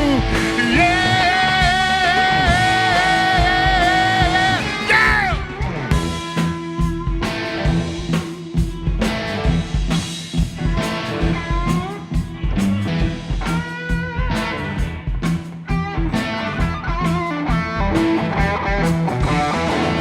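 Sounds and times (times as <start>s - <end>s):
drum kit beat: 0.0s - 20.0s
electric guitar lead: 0.0s - 20.0s
repeating bass riff: 0.0s - 20.0s.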